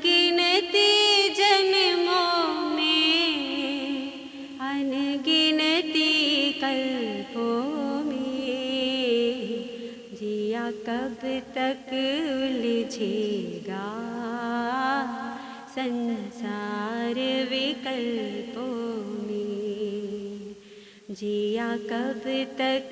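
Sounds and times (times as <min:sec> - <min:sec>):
woman singing: 0:00.0 - 0:22.9.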